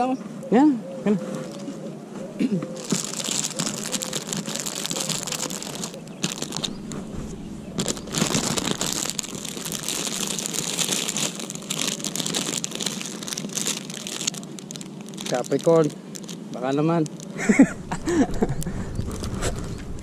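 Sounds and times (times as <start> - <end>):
plastic bag crinkling and rustling: 1.2 - 1.9, 2.7 - 17.5, 18.4 - 20.0.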